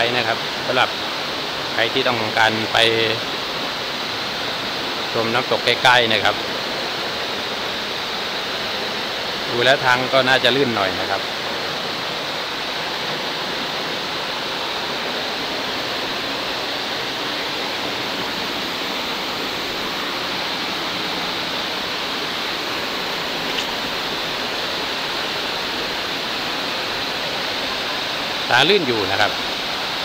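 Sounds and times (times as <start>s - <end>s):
waterfall rushing onto rocks: 0.0s - 30.0s.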